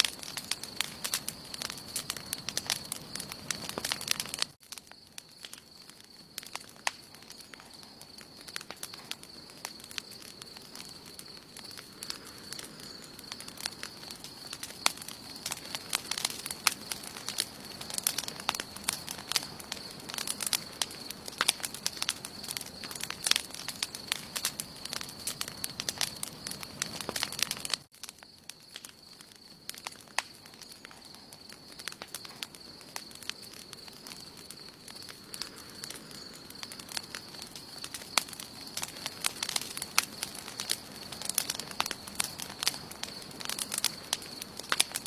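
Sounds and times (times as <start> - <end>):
campfire crackling and popping: 0.0 - 45.0.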